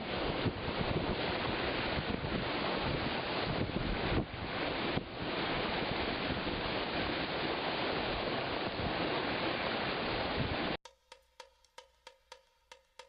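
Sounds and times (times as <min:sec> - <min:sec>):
water rushing past sailboat: 0:00.0 - 0:10.8
wind on microphone: 0:00.0 - 0:10.8.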